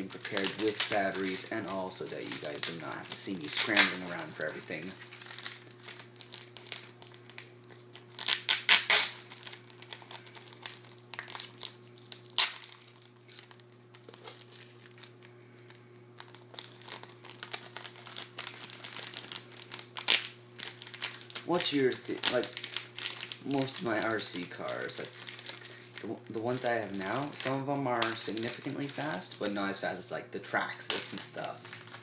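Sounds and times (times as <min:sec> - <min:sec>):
packaging crinkling and rustling: 0:00.0 - 0:29.9, 0:30.5 - 0:32.0
steady low hum: 0:00.0 - 0:32.0.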